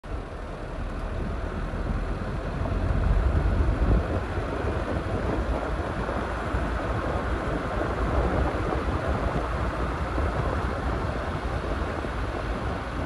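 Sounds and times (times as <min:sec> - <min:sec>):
car driving rumble: 0:00.0 - 0:13.0
car tyre noise on asphalt: 0:00.0 - 0:13.0.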